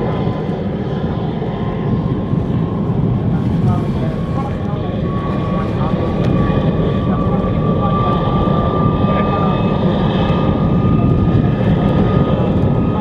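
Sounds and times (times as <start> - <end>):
jet engine idling: 0.0 - 13.0.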